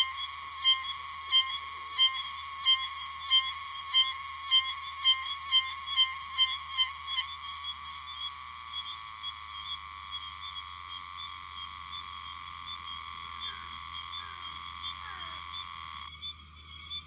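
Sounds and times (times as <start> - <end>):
cicada buzzing: 0.0 - 16.4.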